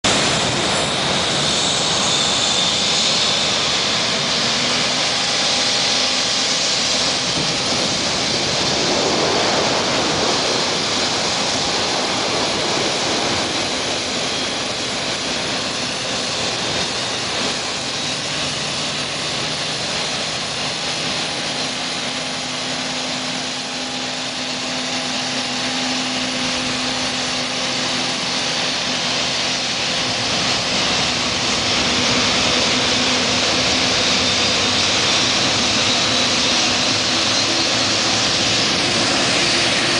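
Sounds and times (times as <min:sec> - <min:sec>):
jet engines running with whine: 0:00.0 - 0:39.9.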